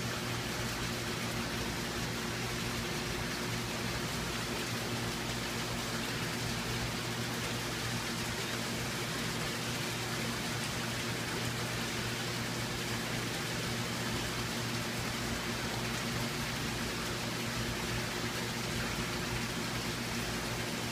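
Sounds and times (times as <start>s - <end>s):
low steady hum: 0.0s - 20.9s
water rushing in aquarium: 0.0s - 20.9s.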